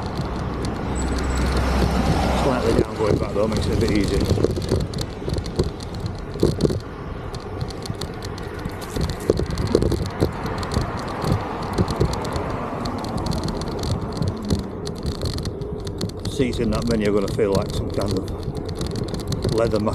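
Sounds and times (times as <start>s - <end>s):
folding bike rattling: 0.0s - 19.9s
knocks and clicks: 0.0s - 19.9s
tyre and wind noise: 0.0s - 19.9s.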